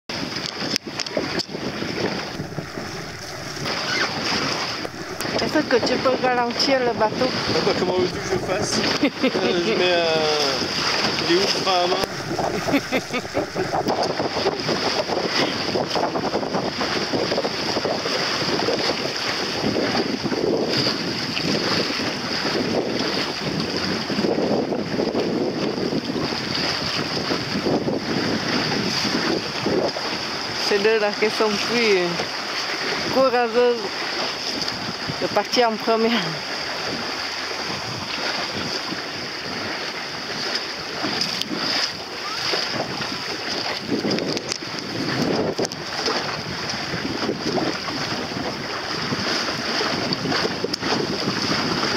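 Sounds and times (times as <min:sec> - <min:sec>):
choppy water rushing: 0:00.1 - 0:51.9
wind buffeting microphone: 0:00.1 - 0:51.9.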